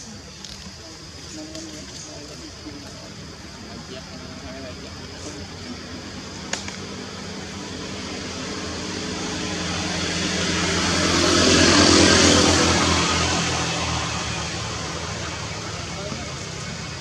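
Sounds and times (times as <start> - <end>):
vehicle passing by: 3.3 - 17.0.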